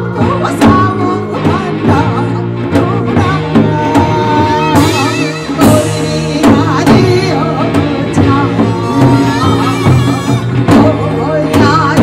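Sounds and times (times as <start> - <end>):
drum strokes: 0.2 - 12.0.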